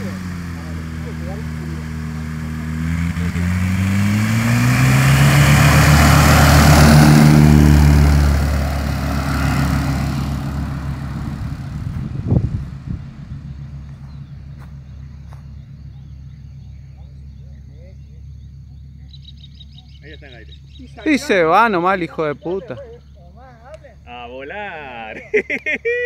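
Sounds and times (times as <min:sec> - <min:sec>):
propeller aircraft engine at full power: 0:00.0 - 0:21.1.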